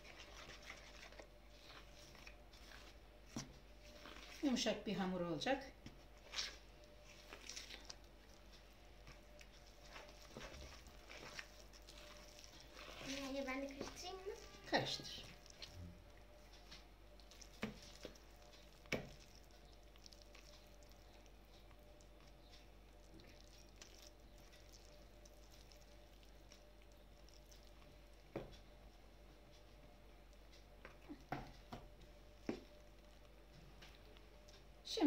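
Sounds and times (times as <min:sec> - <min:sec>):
spoon stirring dough in bowl: 0:00.0 - 0:34.6.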